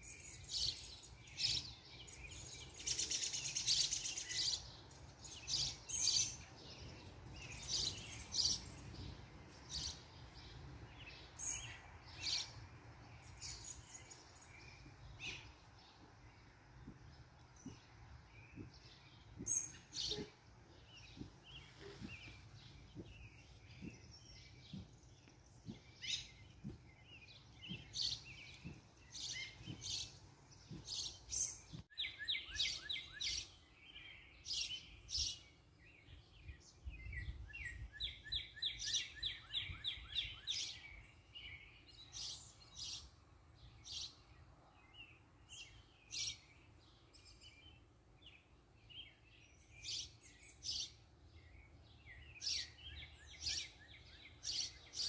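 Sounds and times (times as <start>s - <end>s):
birds chirping and whistling: 0.0s - 12.6s, 13.2s - 43.1s, 48.8s - 55.0s.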